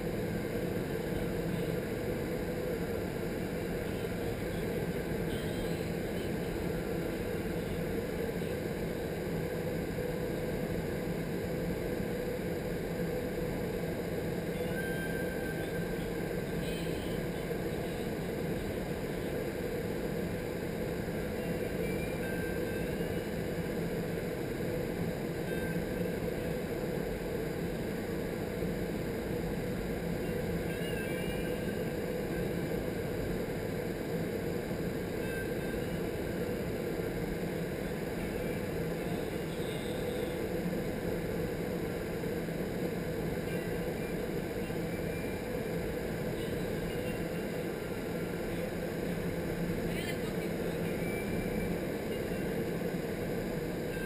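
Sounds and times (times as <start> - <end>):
low fan hum: 0.0 - 54.0.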